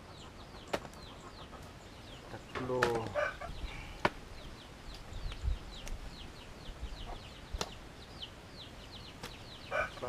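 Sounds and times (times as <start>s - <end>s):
small birds cheeping: 0.0s - 10.0s.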